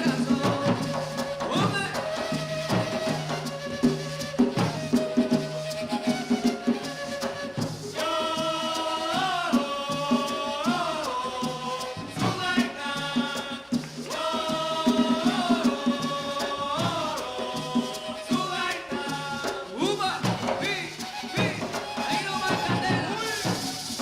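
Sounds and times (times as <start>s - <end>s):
wind instrument melody: 0.0s - 13.4s, 14.1s - 24.0s
hand drums beat: 0.0s - 24.0s.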